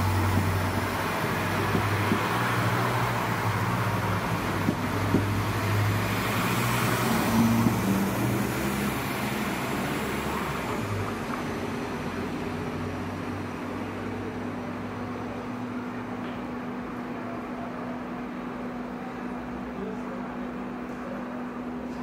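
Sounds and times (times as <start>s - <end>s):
train cars rumbling past: 0.0s - 19.7s
diesel engine hum: 0.0s - 22.0s.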